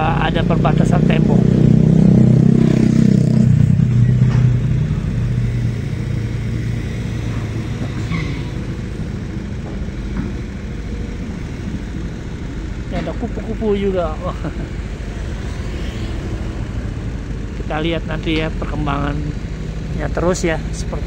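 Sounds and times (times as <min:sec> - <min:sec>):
excavator diesel engine droning: 0:00.0 - 0:21.0.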